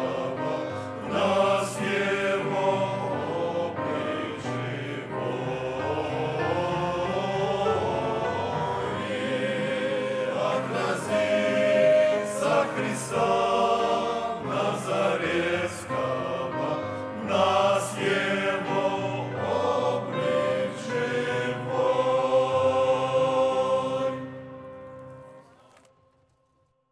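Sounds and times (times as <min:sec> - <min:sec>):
men's choir singing a hymn: 0:00.0 - 0:25.0.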